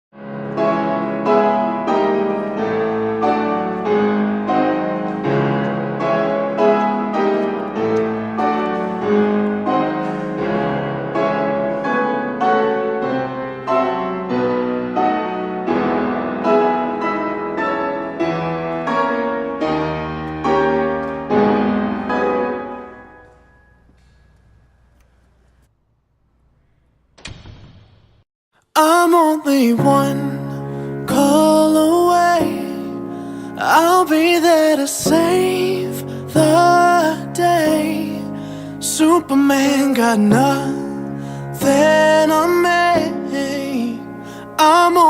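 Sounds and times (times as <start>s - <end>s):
piano playing gentle chords: 0.2s - 25.0s, 28.8s - 45.0s.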